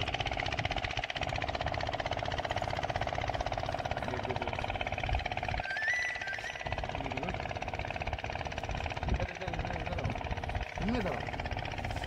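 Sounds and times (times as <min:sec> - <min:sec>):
spinning reel whirring and clicking: 0:00.0 - 0:12.0.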